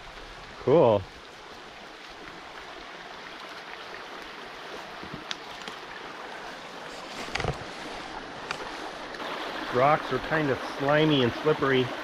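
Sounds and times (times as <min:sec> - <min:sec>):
creek running over stones: 0:00.0 - 0:12.0.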